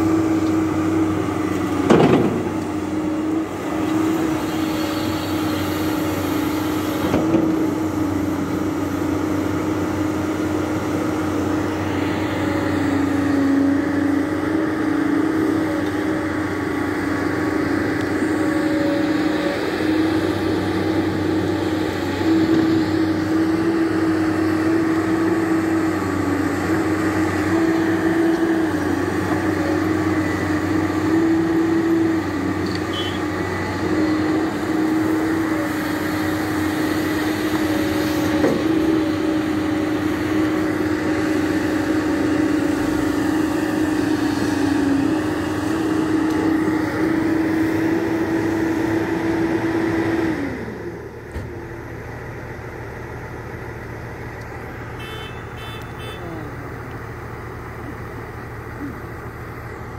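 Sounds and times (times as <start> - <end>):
excavator engine droning: 0.0 - 59.9.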